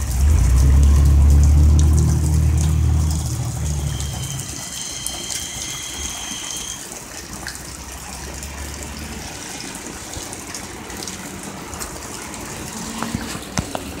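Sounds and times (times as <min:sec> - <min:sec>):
car driving through water: 0:00.0 - 0:14.0
heavy rain falling: 0:00.0 - 0:14.0.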